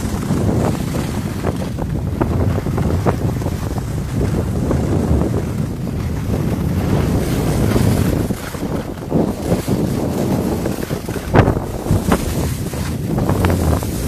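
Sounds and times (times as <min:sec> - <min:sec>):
skis sliding over snow: 0:00.0 - 0:14.0
wind buffeting microphone: 0:00.0 - 0:14.0.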